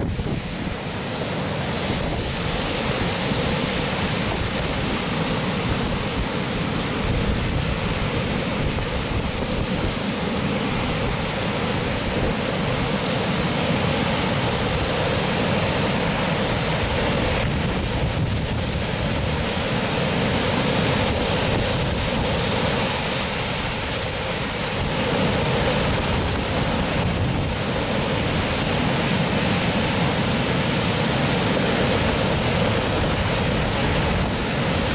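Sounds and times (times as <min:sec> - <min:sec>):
large waves breaking: 0:00.0 - 0:34.9
wind: 0:00.0 - 0:34.9.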